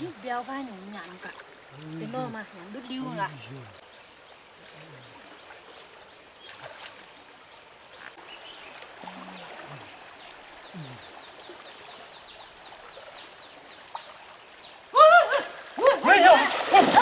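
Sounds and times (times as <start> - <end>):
shallow river flowing: 0.0 - 17.0
small water splashes: 0.0 - 17.0.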